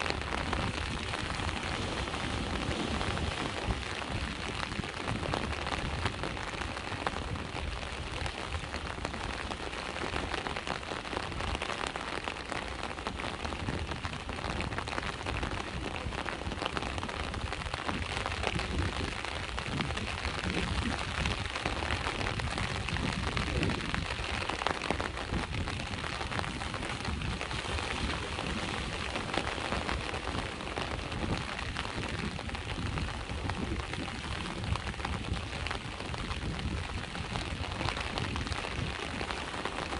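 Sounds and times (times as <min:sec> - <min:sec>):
rain patter: 0:00.0 - 0:39.9
sea waves rumbling: 0:00.0 - 0:39.9.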